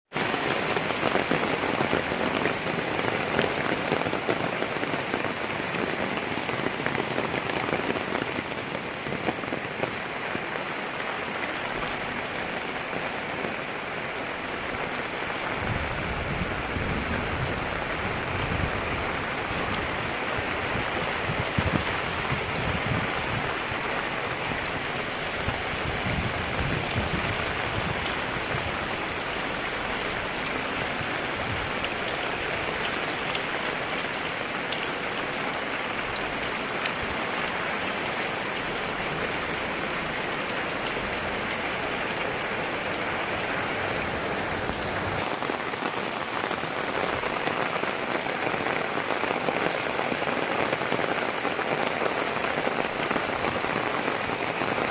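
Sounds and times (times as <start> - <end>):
heavy rain falling: 0.1 - 54.9.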